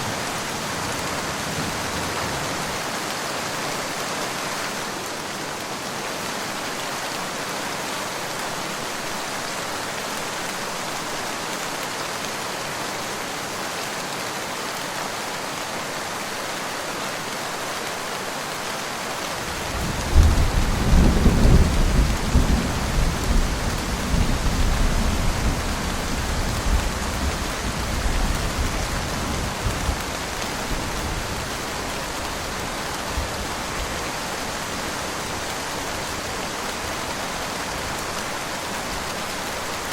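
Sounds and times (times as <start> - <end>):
rain: 0.0 - 39.9.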